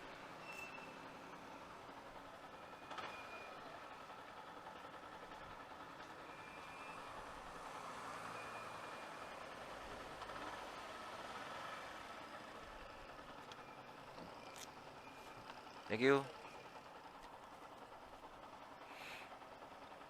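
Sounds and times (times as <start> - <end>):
faint traffic hum: 0.0 - 20.0.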